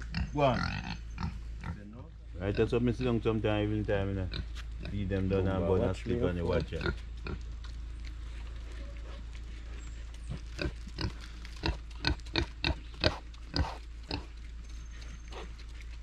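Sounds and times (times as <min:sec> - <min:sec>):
pigs grunting and chomping: 0:02.4 - 0:16.0.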